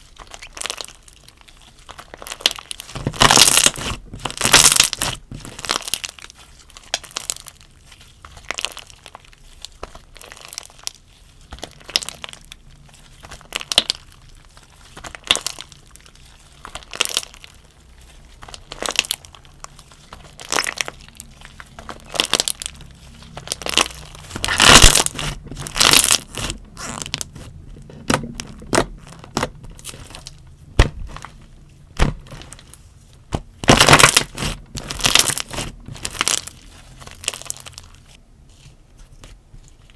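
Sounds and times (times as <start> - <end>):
slime crackling and popping: 0.0 - 38.2.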